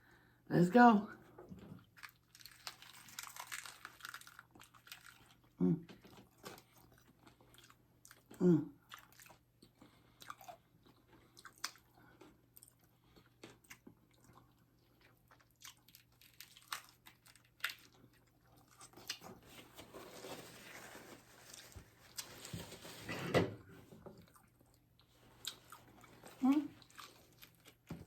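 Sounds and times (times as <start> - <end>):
crunchy chewing: 1.8 - 22.6, 24.1 - 28.0.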